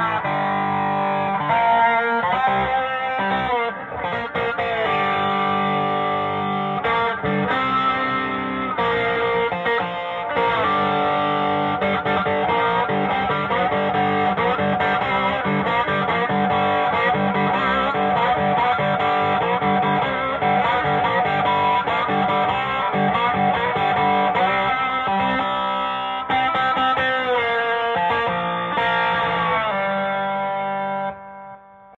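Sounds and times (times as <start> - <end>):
overdriven electric guitar: 0.0 - 31.9.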